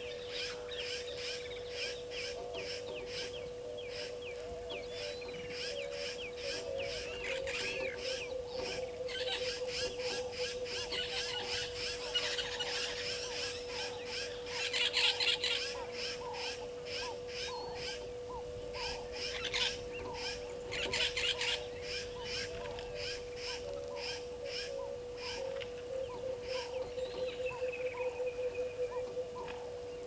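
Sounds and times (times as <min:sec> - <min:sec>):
bursts of birdsong: 0:00.0 - 0:30.0
faint steady hum: 0:00.0 - 0:30.0
pulsing insect chorus: 0:00.0 - 0:30.0.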